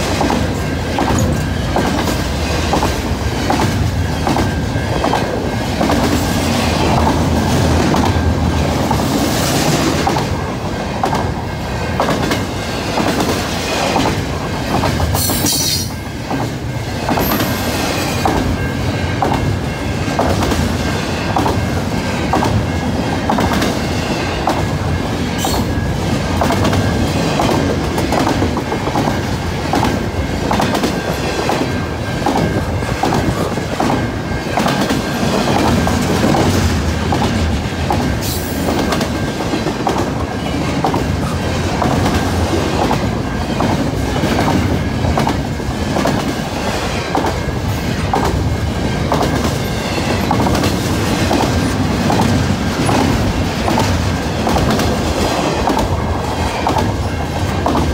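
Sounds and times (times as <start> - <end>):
freight train rumbling: 0.0 - 57.9.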